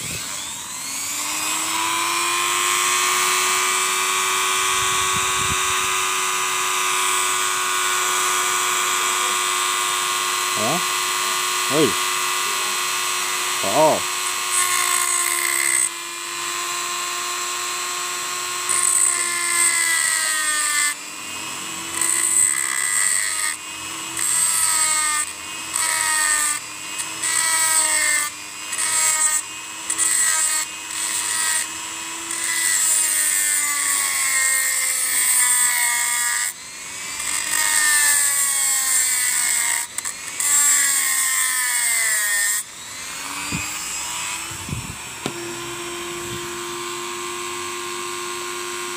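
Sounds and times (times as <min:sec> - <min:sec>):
rotary tool grinding steel: 0:00.0 - 0:48.9.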